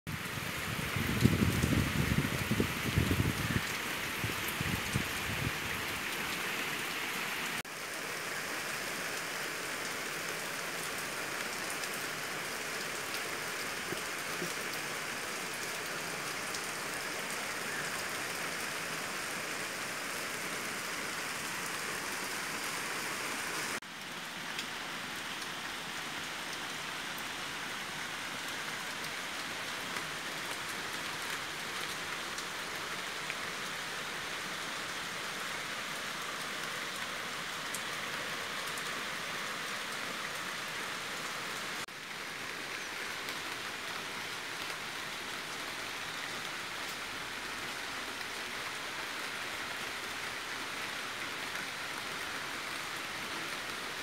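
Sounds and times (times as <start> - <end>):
rain on leaves: 0.1 - 54.0.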